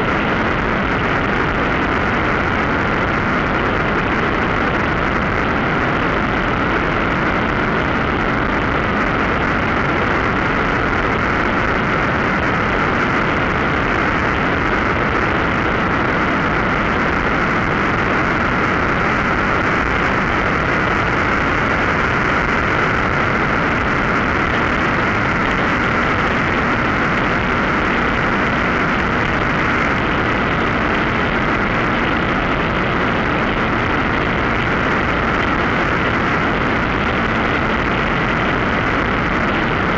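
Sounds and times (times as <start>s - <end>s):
engine and propeller drone: 0.0s - 39.9s
wind rushing over microphone: 0.0s - 39.9s.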